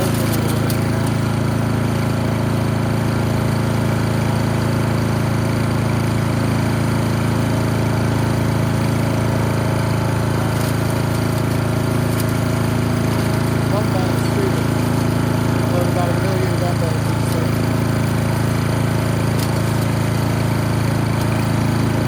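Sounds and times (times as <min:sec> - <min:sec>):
chipper engine droning: 0:00.0 - 0:22.0.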